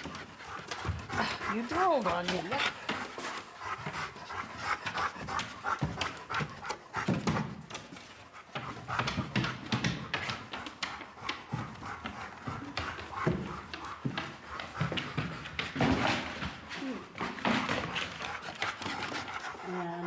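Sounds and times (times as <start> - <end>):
dog panting rapidly: 0.0 - 20.0.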